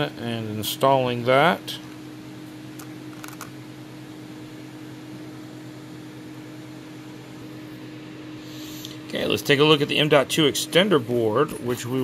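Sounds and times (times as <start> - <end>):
steady hum with tone: 0.0 - 12.0.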